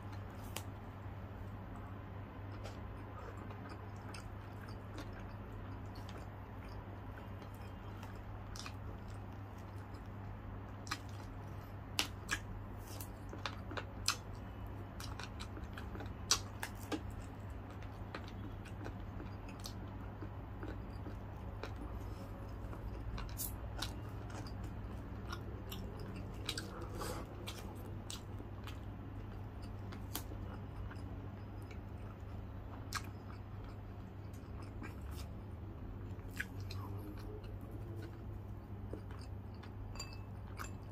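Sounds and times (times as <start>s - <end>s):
person chewing fried chicken: 0.0s - 40.9s
steady low hum: 0.0s - 40.9s.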